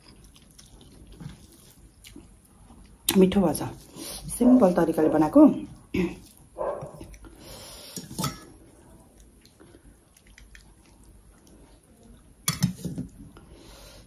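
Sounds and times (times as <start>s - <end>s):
person eating by hand: 0.0s - 4.2s, 5.7s - 14.0s.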